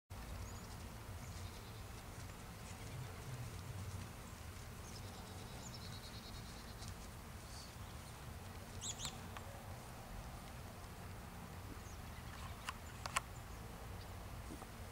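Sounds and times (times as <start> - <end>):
small birds chirping: 0.1 - 10.6, 11.7 - 14.9.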